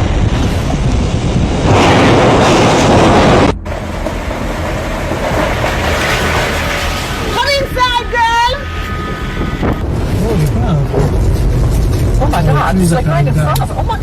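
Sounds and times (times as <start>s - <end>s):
loud rushing and rumbling noise: 0.0s - 14.0s.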